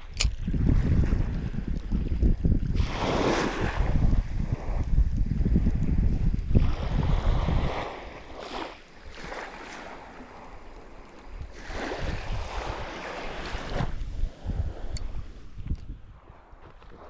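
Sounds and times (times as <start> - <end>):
wind buffeting microphone: 0.0 - 17.0
small waves washing and splashing: 0.1 - 15.6.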